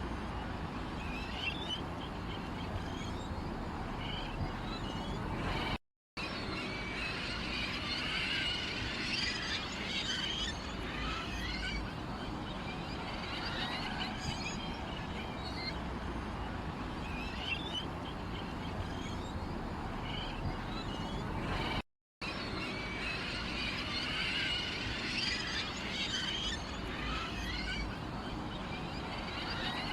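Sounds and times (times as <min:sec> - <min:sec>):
songbirds chirping and twittering: 0:00.0 - 0:29.9.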